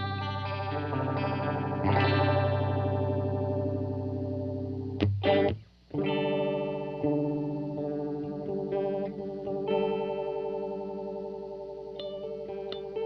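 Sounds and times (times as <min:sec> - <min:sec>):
electric guitar modulated chords: 0:00.0 - 0:13.0.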